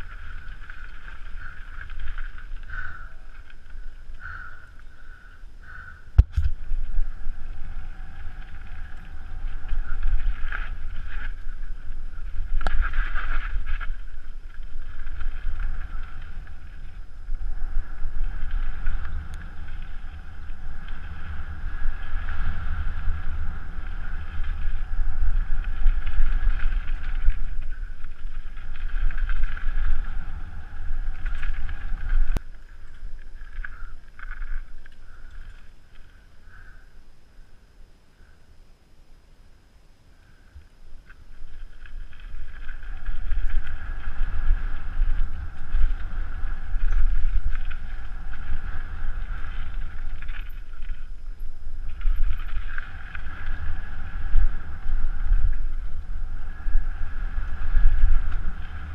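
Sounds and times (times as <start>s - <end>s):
wind buffeting microphone: 0.0s - 35.7s, 41.3s - 58.9s
bike rattling over bumps: 0.0s - 36.8s, 41.0s - 58.9s
bike tyres on dirt trail: 0.0s - 38.3s, 40.2s - 58.9s.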